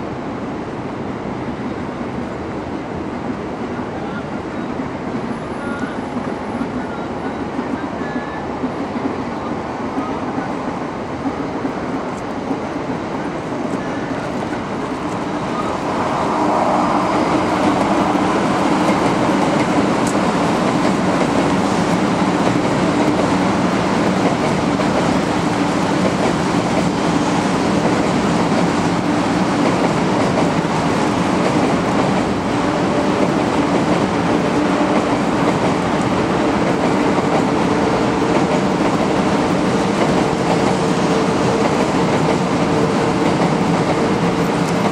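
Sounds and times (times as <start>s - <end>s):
electric train running past: 0.0s - 44.9s.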